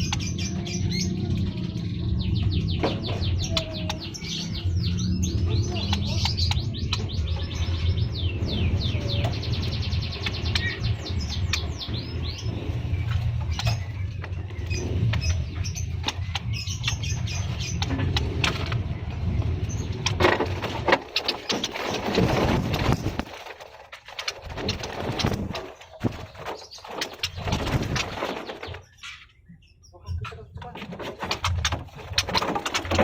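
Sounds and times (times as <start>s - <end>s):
small cage birds chirping: 0.0s - 33.0s.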